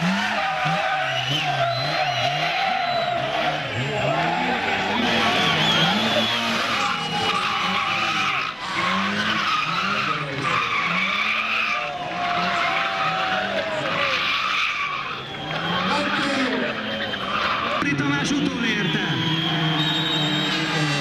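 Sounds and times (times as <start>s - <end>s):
car engine revving: 0.0s - 21.0s
tyres skidding: 0.0s - 21.0s.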